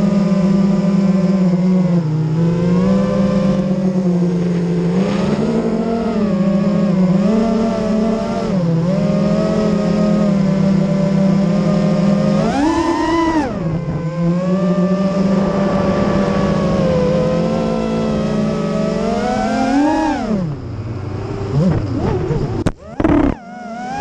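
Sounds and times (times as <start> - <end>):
drone motors and propellers whining: 0.0 - 24.0.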